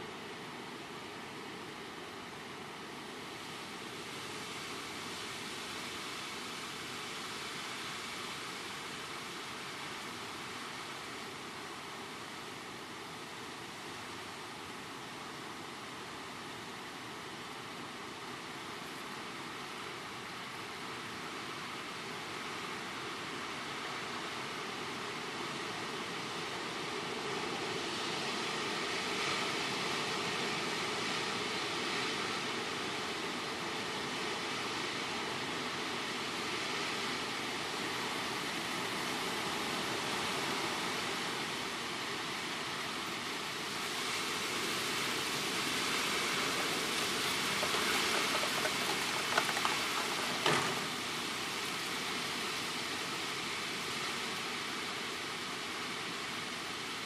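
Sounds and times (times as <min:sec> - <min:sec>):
rain: 0:00.0 - 0:57.0
strong wind rushing through leaves: 0:00.0 - 0:57.0.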